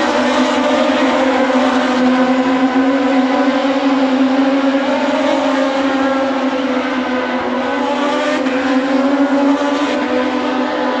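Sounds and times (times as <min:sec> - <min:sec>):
racing motorcycle engines revving: 0:00.0 - 0:11.0.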